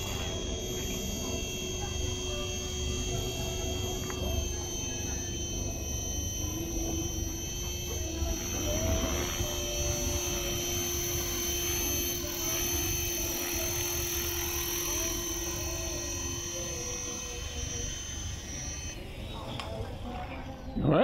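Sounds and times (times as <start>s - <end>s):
lower steady tone: 0.0s - 21.0s
rc helicopter motor whine: 0.0s - 21.0s.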